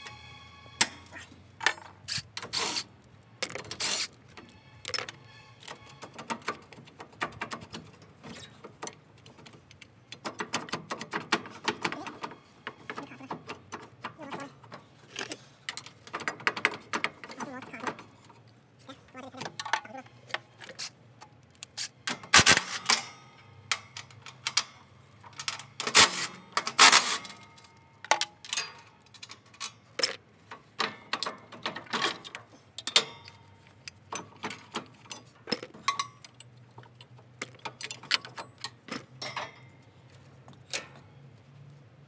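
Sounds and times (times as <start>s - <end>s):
metal tools clinking and knocking: 0.8s - 2.8s, 3.4s - 21.0s, 22.1s - 41.1s.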